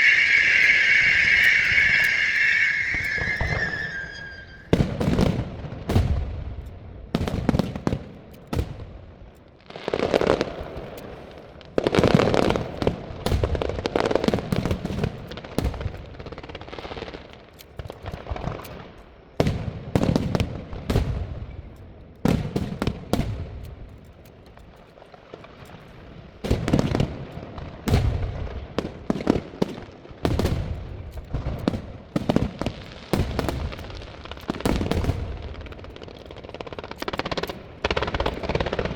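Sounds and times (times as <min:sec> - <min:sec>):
fireworks bangs: 0:00.0 - 0:09.0, 0:09.7 - 0:38.9.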